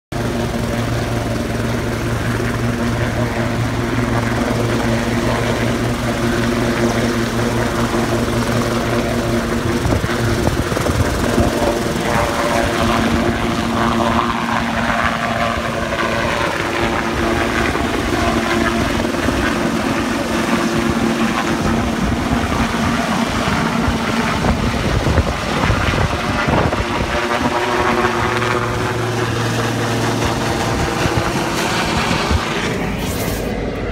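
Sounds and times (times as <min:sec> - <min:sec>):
helicopter rotor and turbine: 0:00.1 - 0:33.9.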